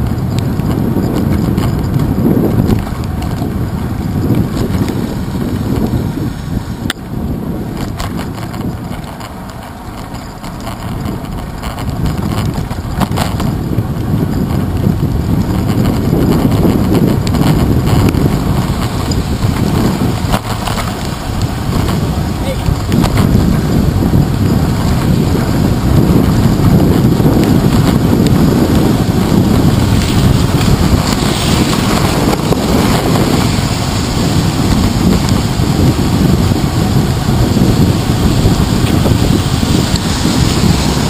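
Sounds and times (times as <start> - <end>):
wind and road rumble: 0.0 - 41.0.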